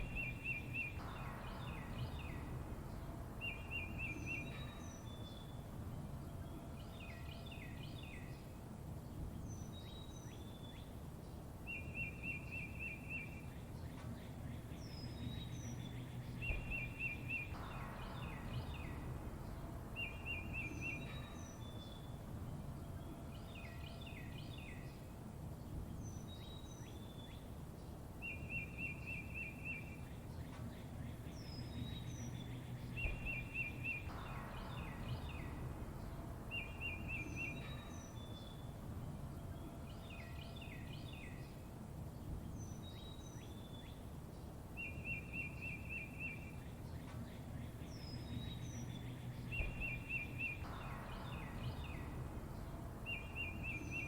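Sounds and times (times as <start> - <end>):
low background rumble: 0.0 - 54.0
songbirds chirping: 0.0 - 54.0.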